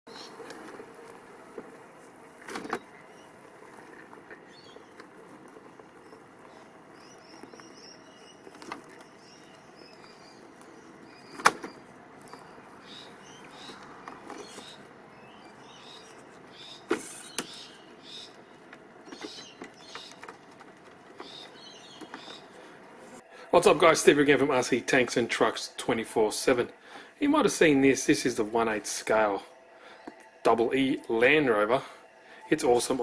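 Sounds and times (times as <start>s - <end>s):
birds chirping faintly: 0.1s - 33.0s
low drivetrain hum: 0.1s - 33.0s.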